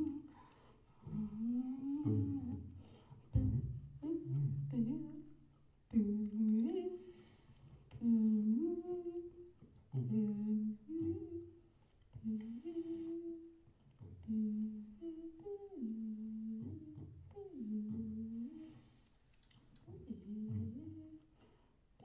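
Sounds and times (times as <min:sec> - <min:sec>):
person humming: 0:00.0 - 0:00.4, 0:01.0 - 0:02.8, 0:03.4 - 0:07.2, 0:08.0 - 0:19.0, 0:19.8 - 0:21.4.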